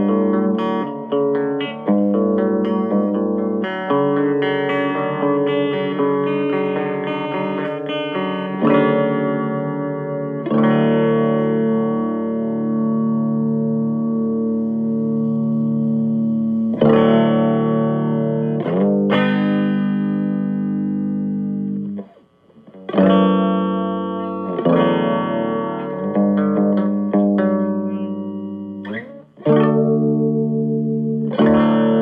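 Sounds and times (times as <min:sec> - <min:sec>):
electric guitar chords with phaser: 0:00.0 - 0:32.0.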